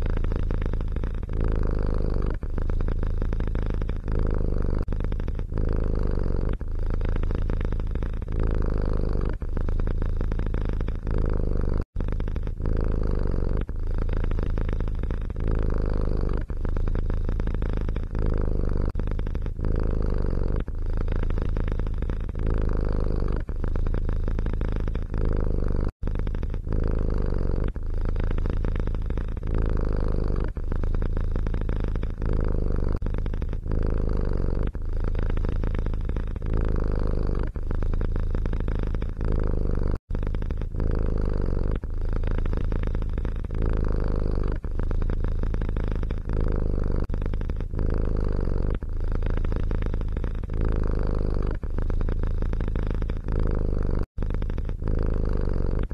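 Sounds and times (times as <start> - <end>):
cat purring: 0.0 - 55.9.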